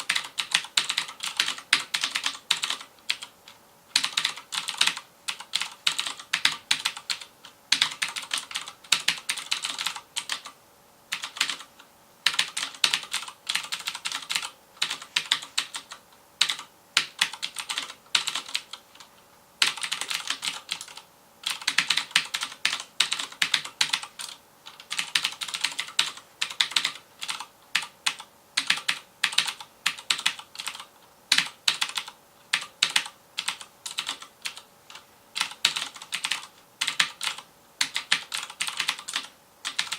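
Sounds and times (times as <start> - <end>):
mechanical keyboard typing: 0.0 - 3.3, 3.9 - 39.9.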